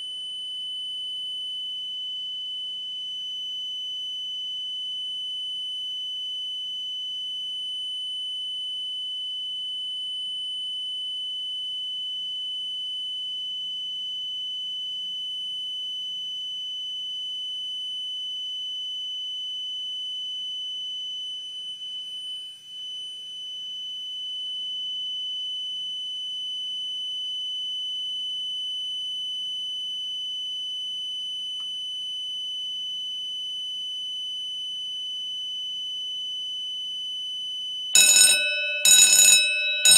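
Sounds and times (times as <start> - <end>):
fire alarm high-pitched tone: 0.0 - 39.9.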